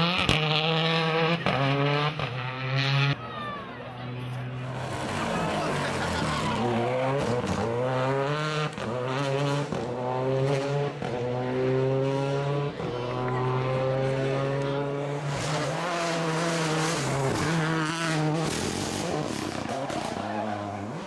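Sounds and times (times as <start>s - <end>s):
rally car engine accelerating: 0.0s - 21.0s.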